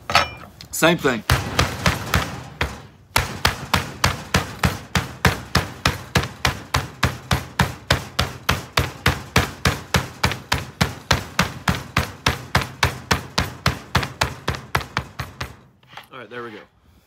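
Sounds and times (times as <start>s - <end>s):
meat mallet pounding steak: 1.2s - 15.7s.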